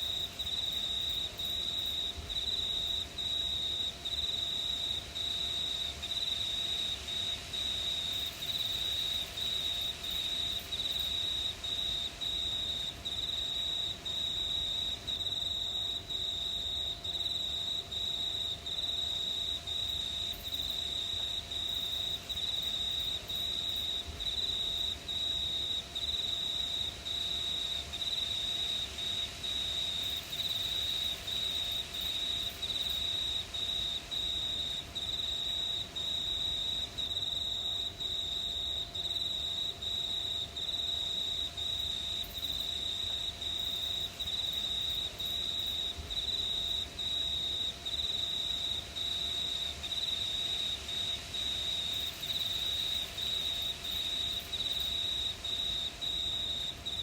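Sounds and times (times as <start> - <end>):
crickets chirping: 0.0 - 57.0
faint low background noise: 0.0 - 57.0.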